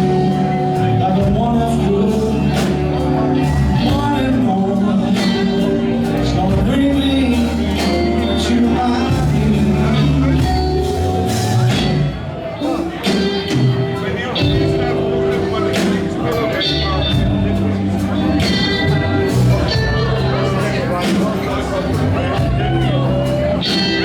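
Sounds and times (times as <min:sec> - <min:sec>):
live blues-rock band playing: 0:00.0 - 0:24.0.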